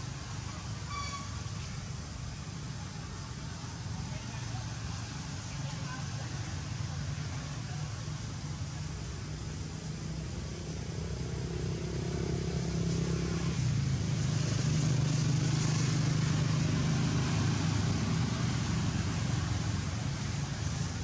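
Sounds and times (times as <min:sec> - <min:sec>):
vehicle engine running: 0:01.9 - 0:21.0.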